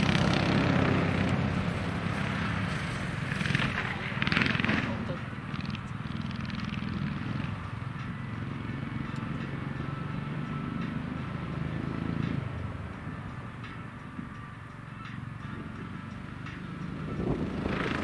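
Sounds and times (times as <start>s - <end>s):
go-kart engine low hum: 0.0s - 18.0s.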